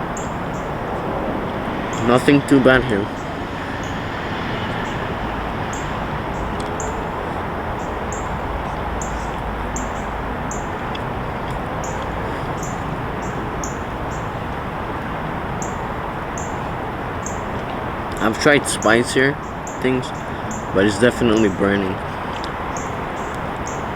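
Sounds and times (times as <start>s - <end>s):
bird chirping: 0.0s - 23.9s
traffic: 0.0s - 23.9s
wind: 0.0s - 23.9s.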